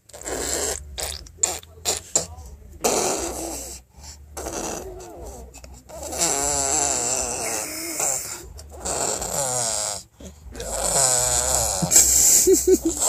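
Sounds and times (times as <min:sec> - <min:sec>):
person making buzzing snore-like noises: 0:00.1 - 0:13.0.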